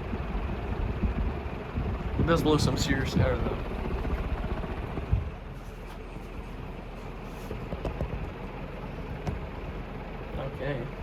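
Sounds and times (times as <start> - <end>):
ceiling fan rushing air: 0.0 - 11.0.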